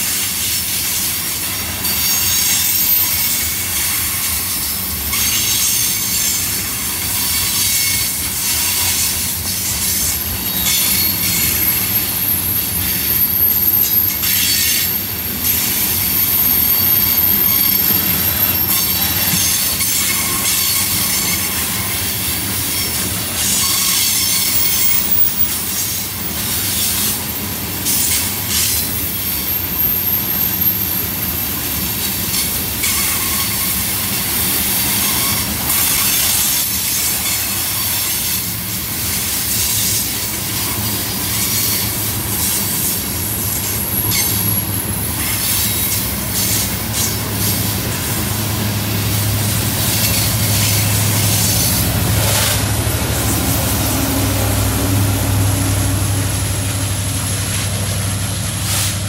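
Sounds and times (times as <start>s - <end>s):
diesel locomotive engine hum: 0.0s - 59.0s
high wheel squeal: 0.0s - 59.0s
train wheels clicking over rail joints: 0.0s - 59.0s.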